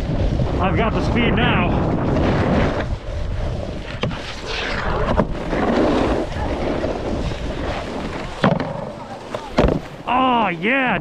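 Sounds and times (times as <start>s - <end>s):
snowboard scraping over snow: 0.0s - 11.0s
wind on microphone: 0.0s - 11.0s.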